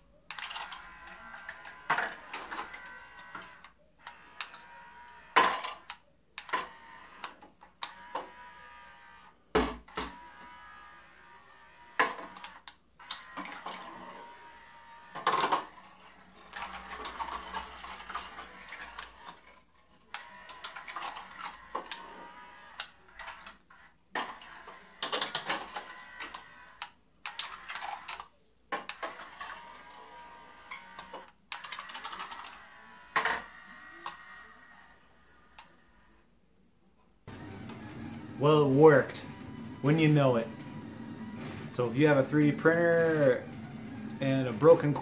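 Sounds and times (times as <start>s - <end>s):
small motors whining: 0.3s - 28.2s, 28.9s - 36.2s, 37.3s - 45.0s.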